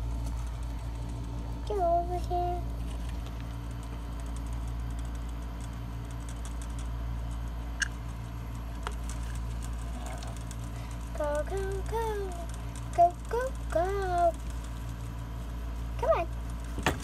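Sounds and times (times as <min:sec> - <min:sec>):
rat scrabbling in bedding: 0:00.0 - 0:01.6, 0:02.7 - 0:17.0
steady low hum: 0:00.0 - 0:17.0.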